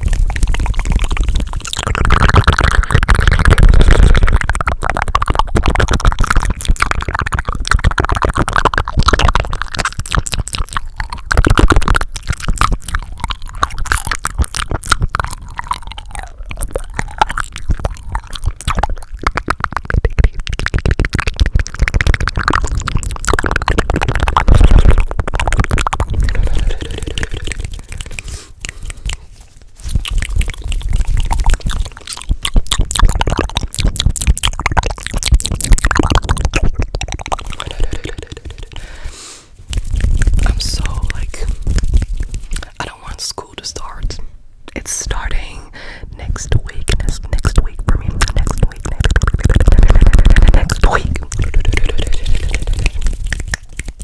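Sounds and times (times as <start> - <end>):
wet mouth clicks and smacks: 0.0 - 45.6, 46.2 - 54.0.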